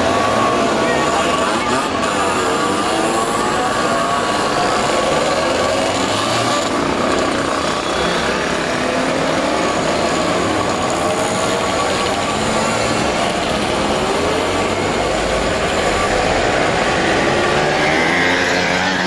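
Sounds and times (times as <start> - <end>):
mopeds and motorcycles passing: 0.0 - 19.0.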